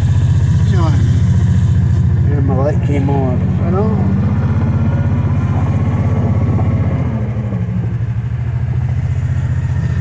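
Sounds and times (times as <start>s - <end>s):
engine running at low speed: 0.0s - 10.0s.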